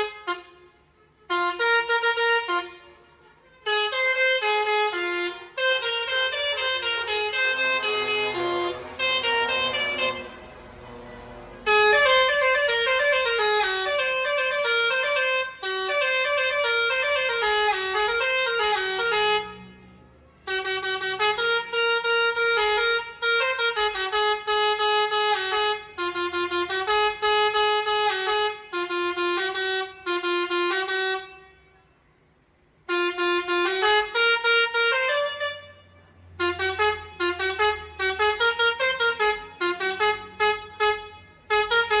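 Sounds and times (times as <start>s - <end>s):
bus horn playing melody: 0.0s - 32.1s, 32.8s - 42.0s.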